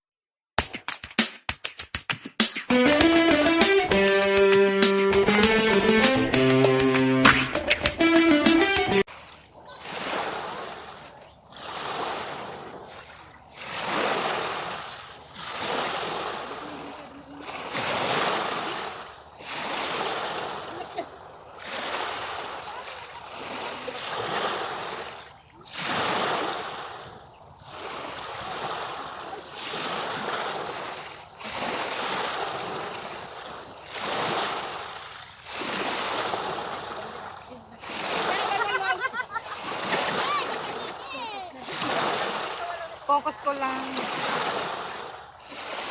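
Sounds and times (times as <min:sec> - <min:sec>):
sea waves washing onto beach: 0:09.0 - 0:45.9.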